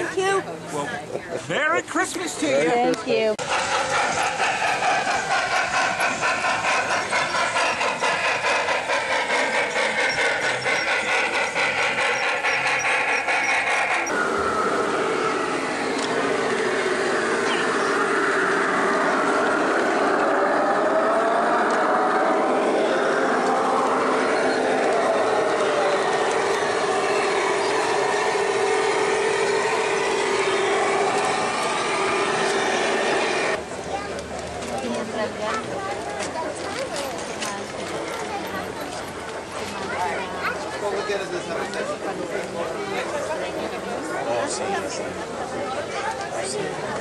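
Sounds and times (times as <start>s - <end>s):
model train running rumble: 0.0s - 47.0s
model train clicking rattle: 2.9s - 47.0s.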